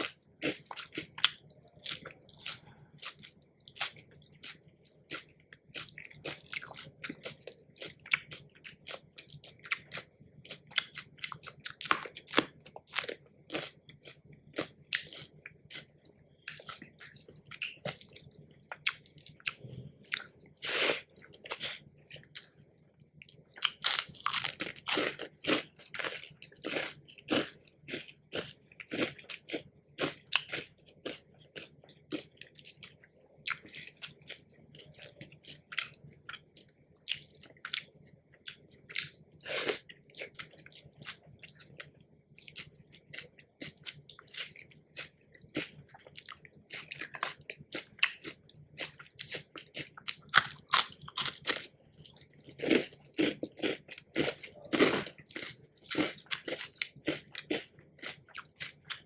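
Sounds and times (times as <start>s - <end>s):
crunching crisp food: 0.0s - 59.0s.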